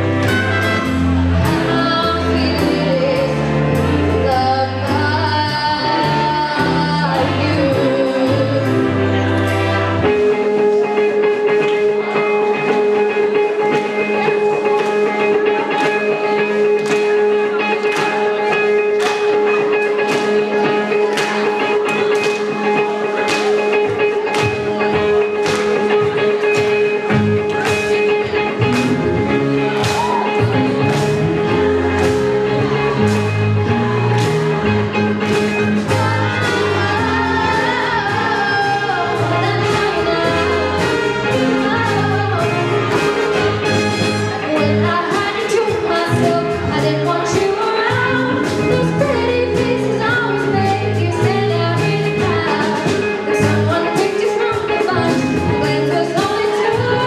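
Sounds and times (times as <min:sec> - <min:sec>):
drums keeping a steady beat: 0:00.0 - 0:57.0
jazz band playing: 0:00.0 - 0:57.0
person singing: 0:00.0 - 0:57.0.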